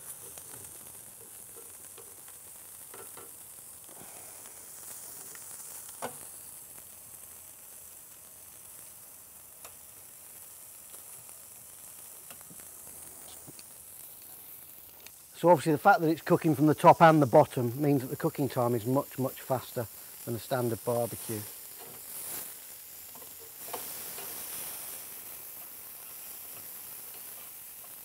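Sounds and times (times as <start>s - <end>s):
coals crackling: 0.0s - 28.0s
steak sizzling on a grill: 0.0s - 28.0s.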